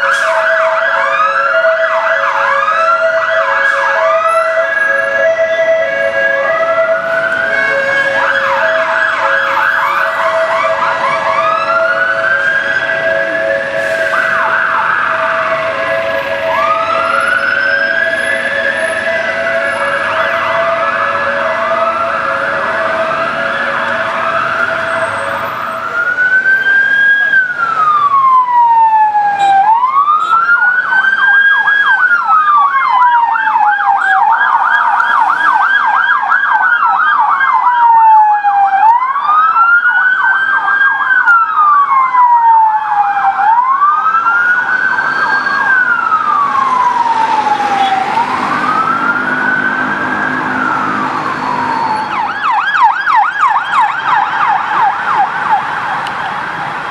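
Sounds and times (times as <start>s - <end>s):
emergency sirens wailing and yelping: 0.0s - 56.9s
police siren: 0.0s - 56.9s.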